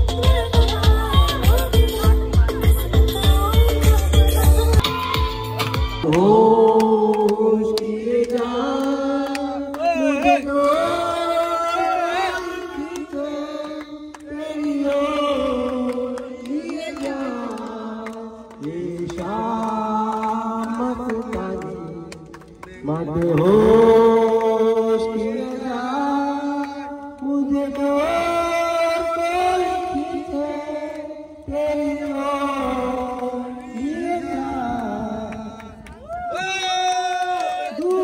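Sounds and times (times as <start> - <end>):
person singing slow song: 0.0 - 36.1, 37.7 - 38.0.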